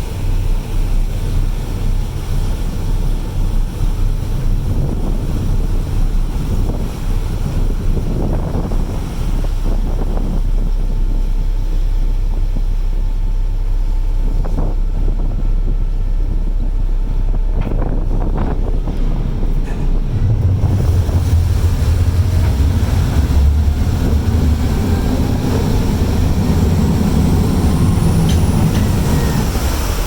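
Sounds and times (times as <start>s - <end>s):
water washing: 0.0s - 12.2s, 16.7s - 30.0s
ferry engine rumble: 0.0s - 30.0s
wind buffeting microphone: 0.0s - 30.0s.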